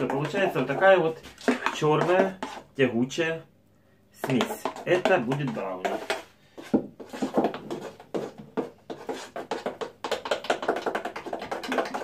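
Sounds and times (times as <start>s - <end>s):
spatula stirring sticky batter: 0.0s - 3.2s, 4.2s - 12.0s.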